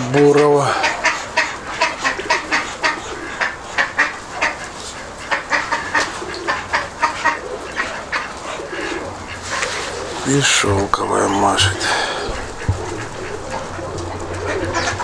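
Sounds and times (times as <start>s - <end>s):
domestic birds calling: 0.0s - 15.0s.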